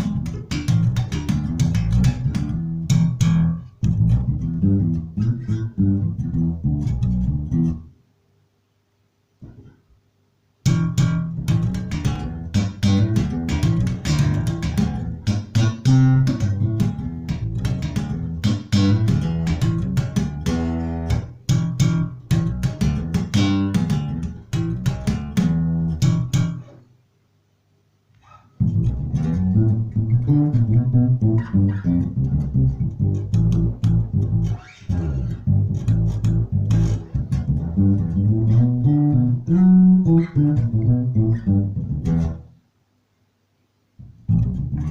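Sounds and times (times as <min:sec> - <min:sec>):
electric bass plucked notes: 0:00.0 - 0:07.9, 0:10.6 - 0:26.8, 0:28.6 - 0:42.5, 0:44.0 - 0:44.9.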